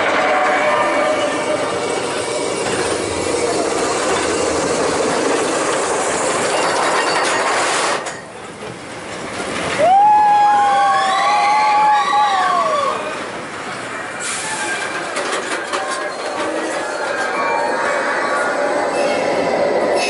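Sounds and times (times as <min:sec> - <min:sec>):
roller coaster rattling on track: 0:00.0 - 0:20.0.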